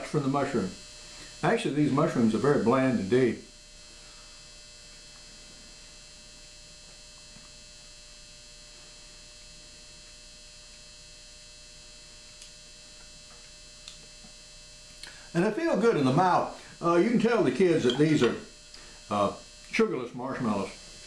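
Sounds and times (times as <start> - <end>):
electrical hum and hiss: 0.0 - 21.0.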